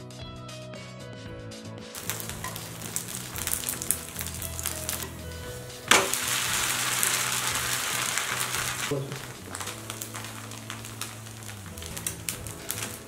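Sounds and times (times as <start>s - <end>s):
batter sizzling on hot griddle: 2.0s - 13.0s
pancake landing on griddle: 2.0s - 13.0s.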